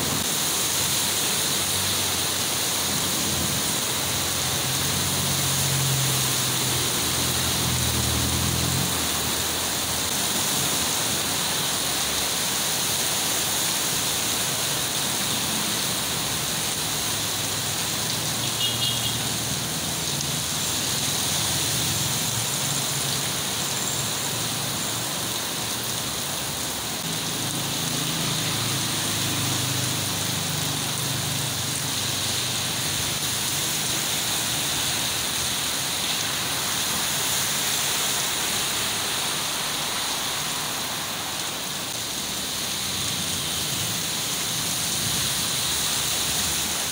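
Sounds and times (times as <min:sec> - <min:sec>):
heavy rain pouring: 0:00.0 - 0:46.9
vehicles driving through water: 0:00.0 - 0:46.9.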